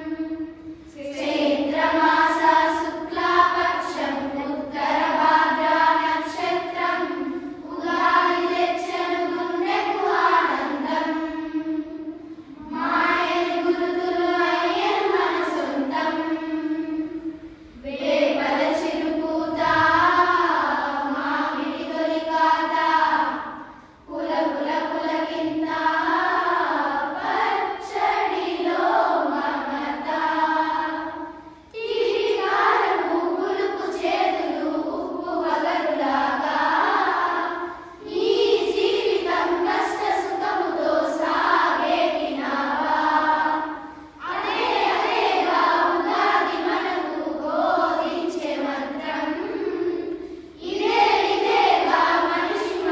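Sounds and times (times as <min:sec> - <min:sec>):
children chanting in unison: 0:00.0 - 0:52.9.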